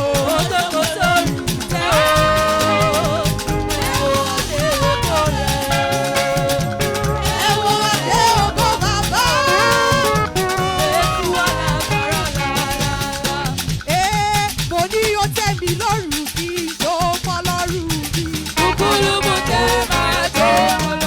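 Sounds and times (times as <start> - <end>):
person singing: 0.0 - 14.4, 16.2 - 21.0
band playing dance groove: 0.0 - 21.0
drums and percussion: 0.0 - 21.0.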